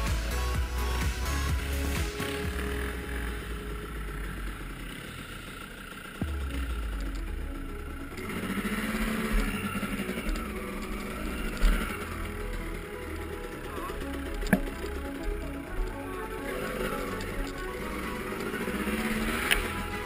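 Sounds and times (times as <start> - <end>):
dirt bike engine rumbling: 0.0 - 20.0.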